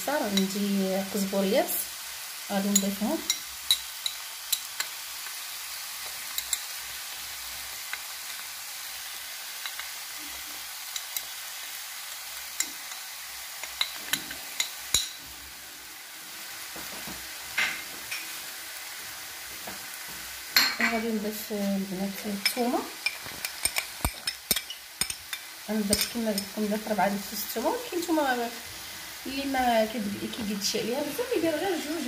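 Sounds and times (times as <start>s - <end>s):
meat and onions sizzling: 0.0s - 32.0s.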